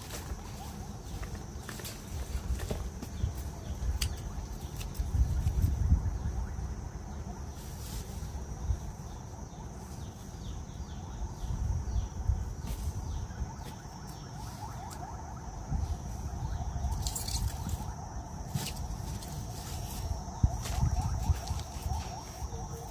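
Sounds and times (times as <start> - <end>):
leaves rustling: 0.0 - 22.9
faint steady high tone: 3.3 - 22.9.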